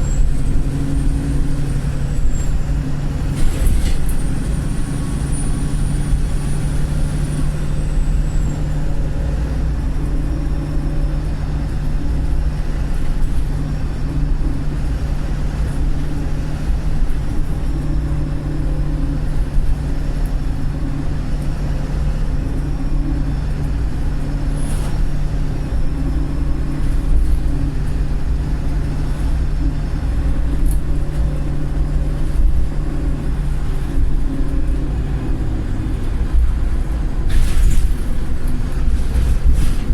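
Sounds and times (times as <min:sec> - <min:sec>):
bus diesel engine drone: 0:00.0 - 0:39.9.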